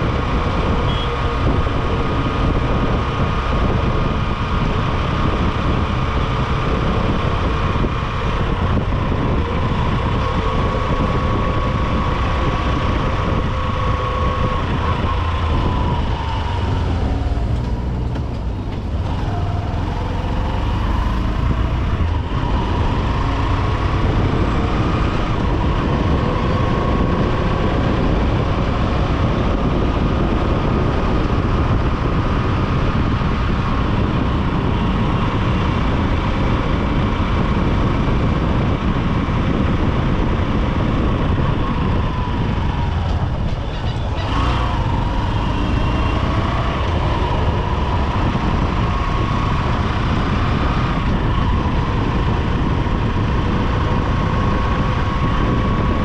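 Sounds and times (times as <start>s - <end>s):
motorcycle engine running: 0.0s - 56.0s
surrounding traffic: 0.0s - 56.0s
wind rush on microphone: 0.0s - 56.0s.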